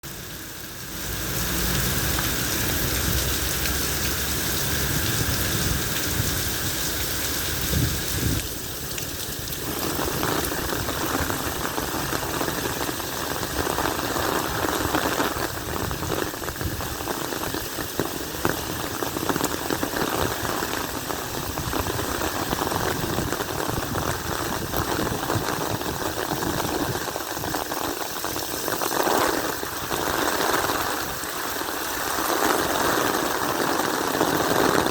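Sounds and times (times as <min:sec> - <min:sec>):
steady rain hissing: 0:00.0 - 0:34.9.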